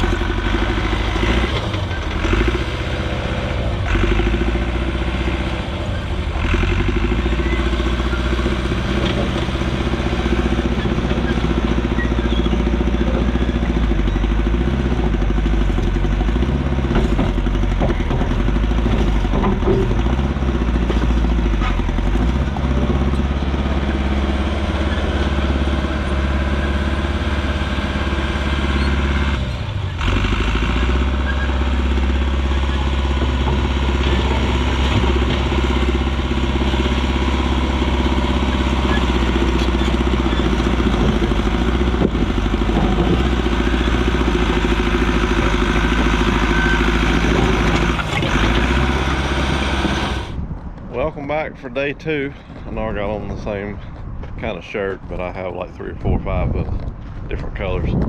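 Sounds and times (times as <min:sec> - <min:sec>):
track loader engine running: 0:00.0 - 0:58.0.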